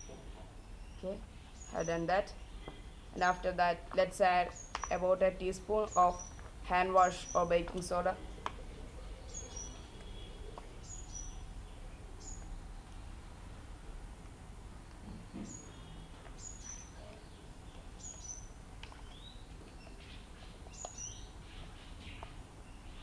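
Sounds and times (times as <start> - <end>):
birds chirping: 0.0 - 13.6, 15.1 - 23.0.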